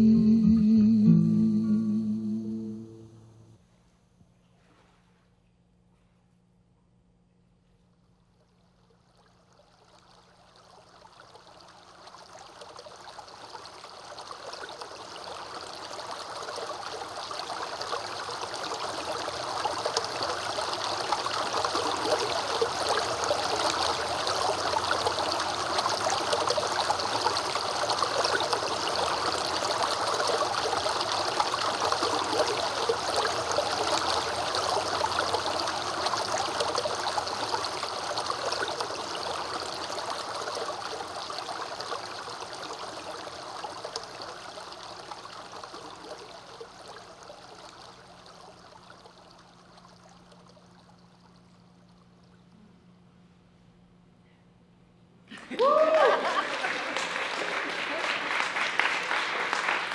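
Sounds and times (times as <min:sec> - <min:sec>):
stream-like running water: 0:08.2 - 0:52.7, 0:55.5 - 0:59.9.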